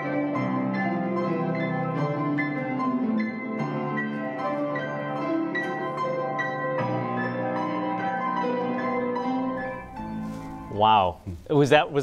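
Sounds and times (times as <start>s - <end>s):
piano ensemble playing: 0.0s - 12.0s.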